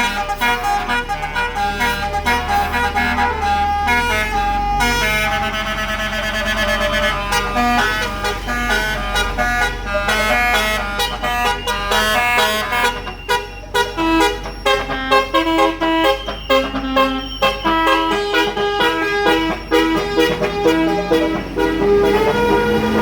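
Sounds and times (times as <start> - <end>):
musical air horn melody: 0.0 - 23.0.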